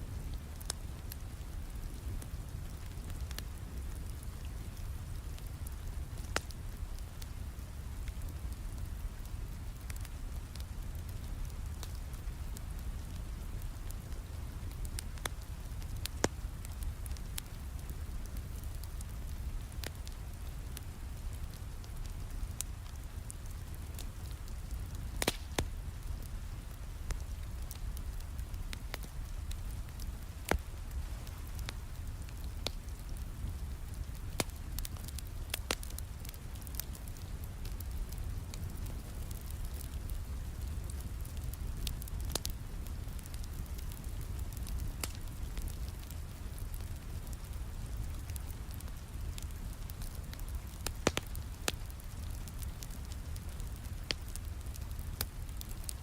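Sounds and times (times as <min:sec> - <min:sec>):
fireplace crackling: 0:00.0 - 0:56.0
steady rain with deep rumble: 0:00.0 - 0:56.0.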